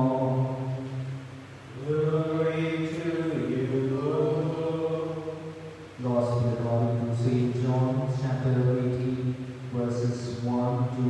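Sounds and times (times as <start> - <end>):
man chanting through a microphone: 0.0 - 11.0.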